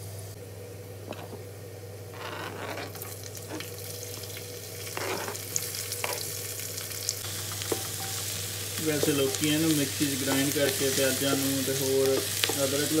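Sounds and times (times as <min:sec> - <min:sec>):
onions sizzling in hot oil: 0:02.4 - 0:13.0.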